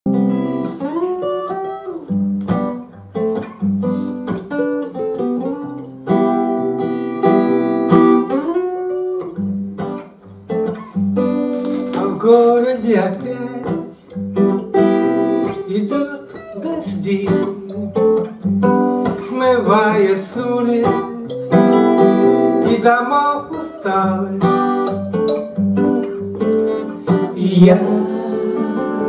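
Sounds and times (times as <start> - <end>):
acoustic guitar playing: 0.1 - 29.0.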